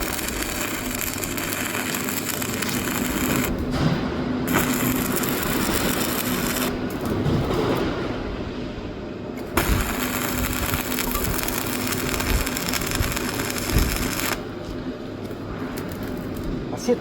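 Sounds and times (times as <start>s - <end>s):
welding arc crackling and sizzling: 0.0s - 3.8s, 4.4s - 7.7s, 9.4s - 14.5s, 15.2s - 17.0s.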